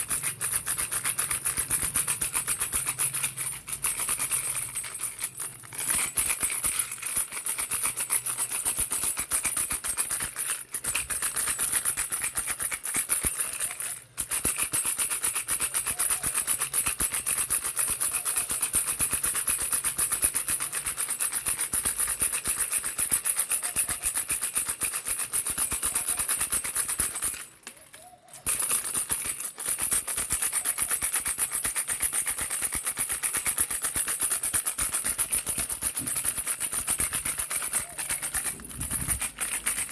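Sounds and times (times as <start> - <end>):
baby rattle shaken rapidly: 0.0 - 39.9.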